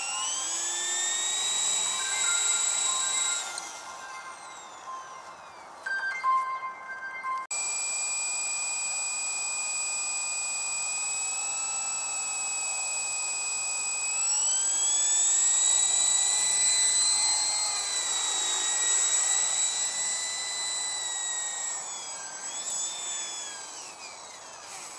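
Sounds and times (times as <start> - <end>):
rc helicopter rotor whining: 0.0 - 5.9, 7.5 - 24.9.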